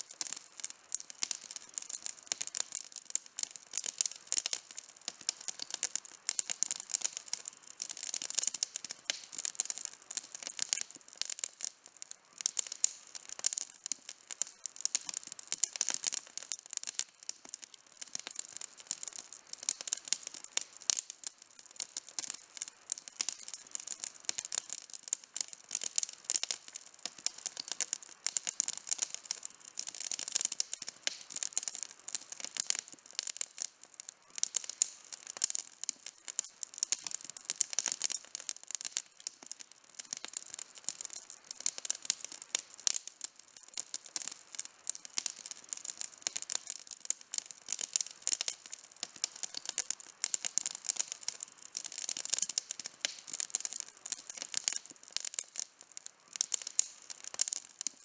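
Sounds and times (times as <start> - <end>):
campfire crackling and snapping: 0.0 - 58.0.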